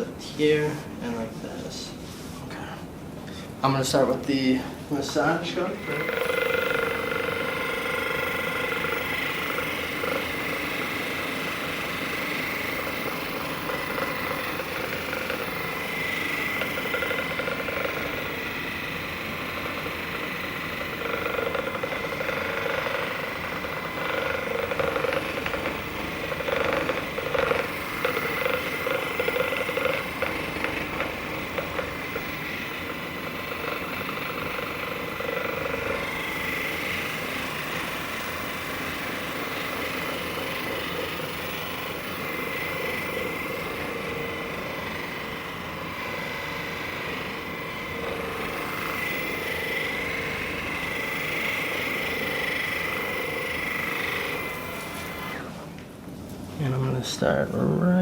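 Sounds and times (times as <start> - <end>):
massage gun hammering buzz: 3.6 - 55.9.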